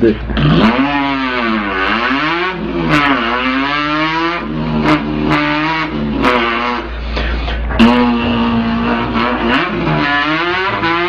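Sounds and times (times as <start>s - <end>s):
boy imitating a revving engine: 0.0s - 11.0s.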